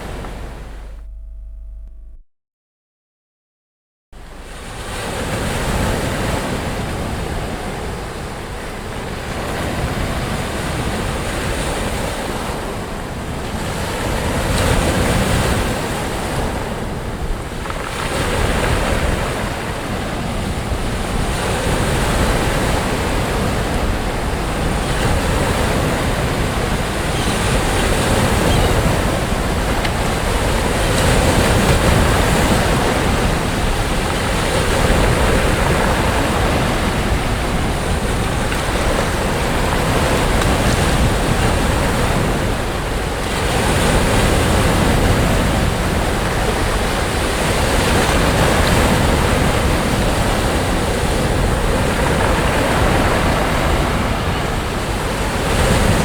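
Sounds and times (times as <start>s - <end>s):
waves breaking on beach: 4.2s - 56.0s.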